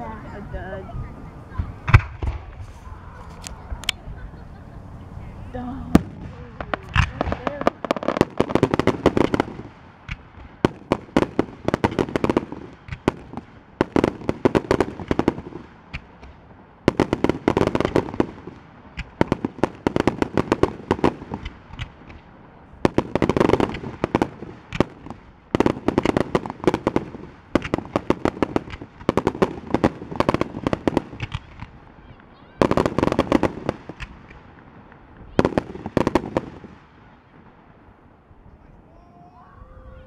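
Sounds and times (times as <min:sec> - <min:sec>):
fireworks bangs and pops: 0:00.8 - 0:38.3.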